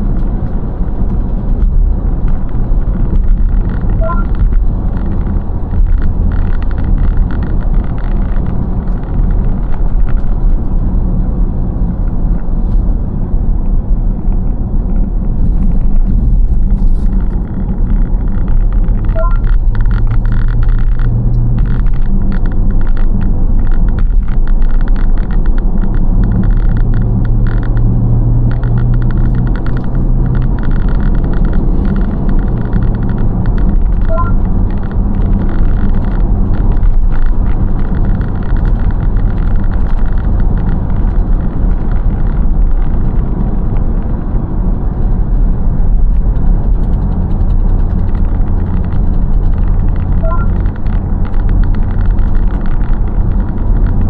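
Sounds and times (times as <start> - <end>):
tyre and engine rumble: 0.0 - 54.0.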